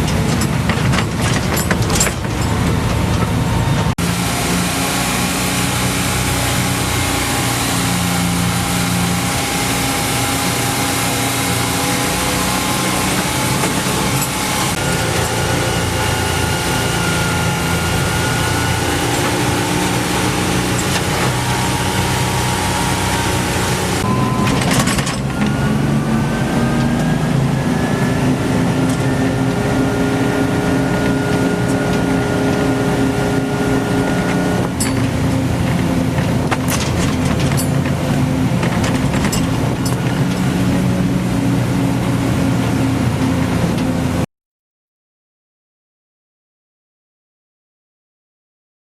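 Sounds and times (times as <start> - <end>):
truck engine running: 0.0 - 44.2
road and wind noise: 0.0 - 44.3.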